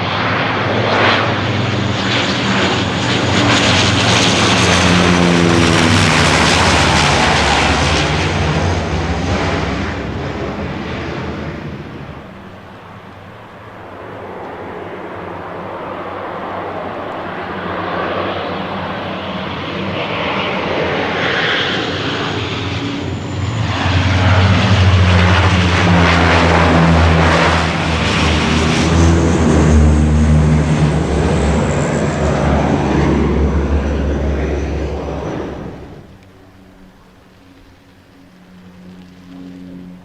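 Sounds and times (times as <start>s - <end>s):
turboprop aircraft drone: 0.0s - 40.0s.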